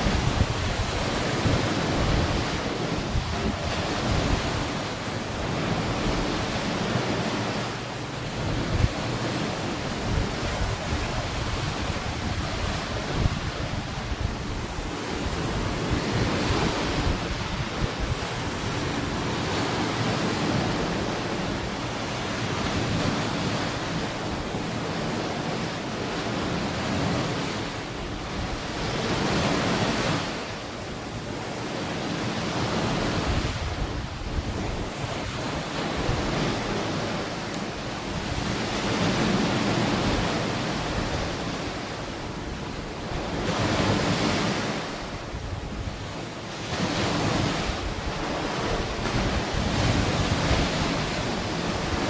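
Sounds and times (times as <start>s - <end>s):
wind buffeting microphone: 0.0s - 31.5s, 32.2s - 52.0s
ocean waves breaking: 0.0s - 52.0s.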